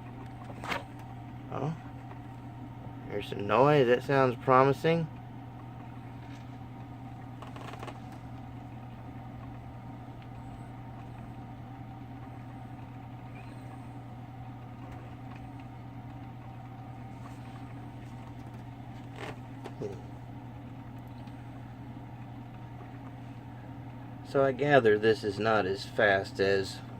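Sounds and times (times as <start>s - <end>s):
coffee maker humming: 0.0s - 26.9s.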